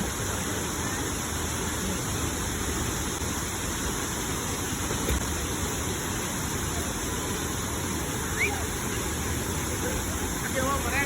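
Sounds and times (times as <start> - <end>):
waterfall roaring into pool: 0.0 - 11.0.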